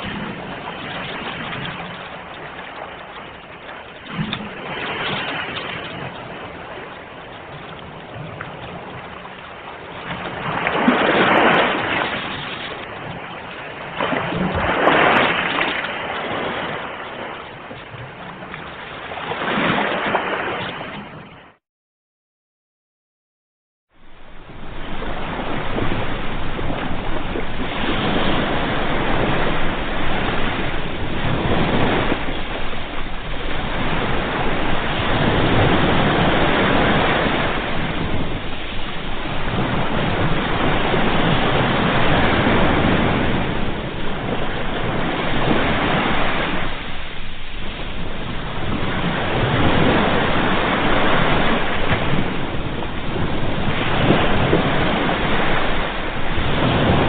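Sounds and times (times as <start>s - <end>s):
ocean waves breaking: 0.0s - 21.6s, 23.9s - 57.0s.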